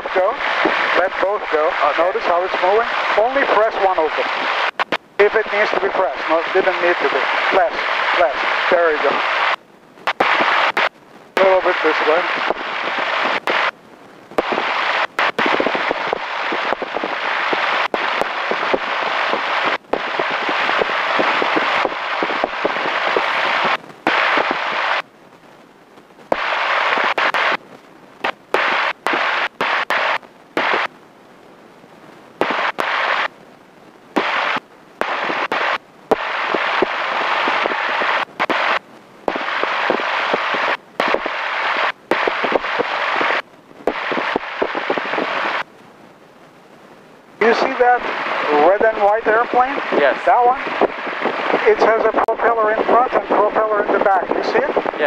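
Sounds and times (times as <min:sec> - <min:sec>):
airplane cabin noise: 0:00.0 - 0:45.9.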